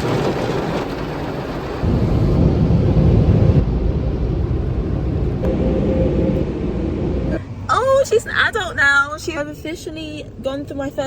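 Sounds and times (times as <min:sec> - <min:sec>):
car wash rushing water: 0:00.0 - 0:09.0
heavy rumble: 0:00.0 - 0:09.2.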